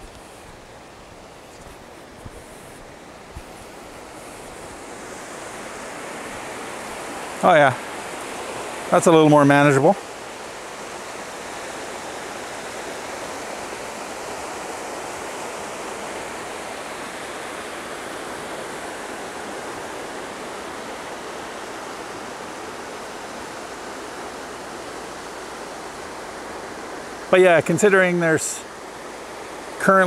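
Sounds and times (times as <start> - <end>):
river rushing over rocks: 0.0 - 30.0.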